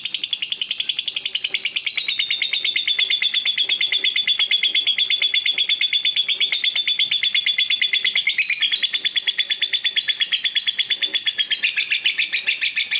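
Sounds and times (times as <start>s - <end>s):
lovebird rapid high chirps: 0.0s - 12.9s.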